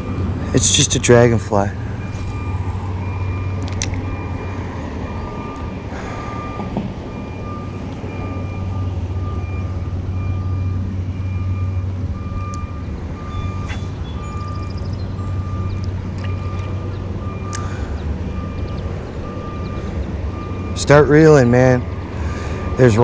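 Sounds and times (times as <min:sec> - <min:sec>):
low engine hum: 0:00.0 - 0:23.0
reversing alarm beeping: 0:00.0 - 0:23.0.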